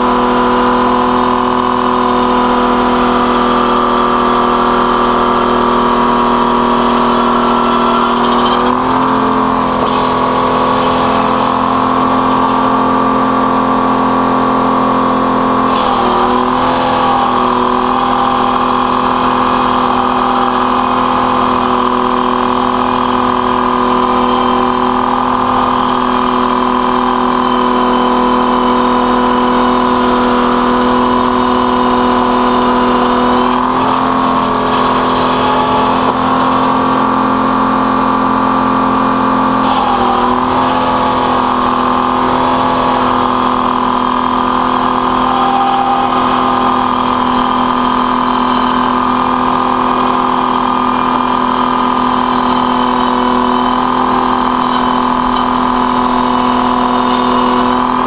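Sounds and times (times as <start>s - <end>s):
circular saw cutting log: 0.0s - 58.0s.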